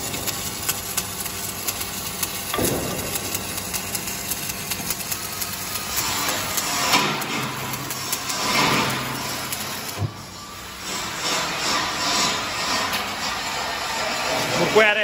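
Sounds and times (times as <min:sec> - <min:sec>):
sharp pops of welding: 0:00.0 - 0:13.3
welding arc crackling: 0:00.0 - 0:15.0.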